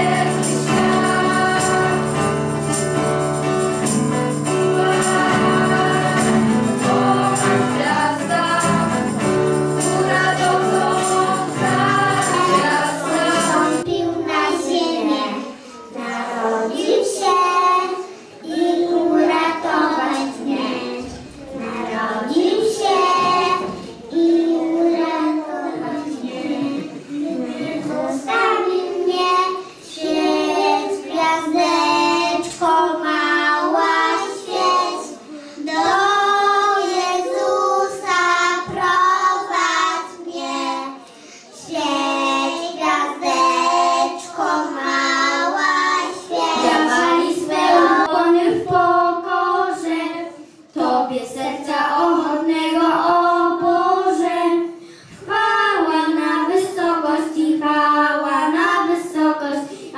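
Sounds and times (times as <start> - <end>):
children singing a carol: 0.0 - 59.9.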